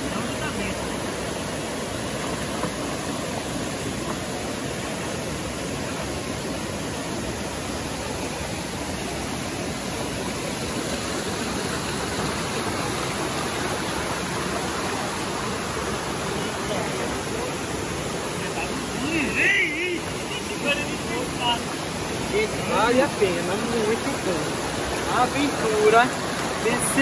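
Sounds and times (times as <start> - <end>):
river flowing over rocks: 0.0 - 27.0
waterfall rushing: 0.0 - 27.0.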